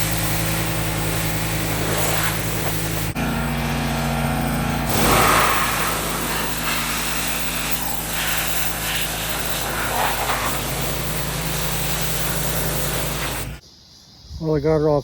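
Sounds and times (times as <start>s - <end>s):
pressure washer engine running: 0.0s - 13.6s
water jet spraying: 0.0s - 13.6s.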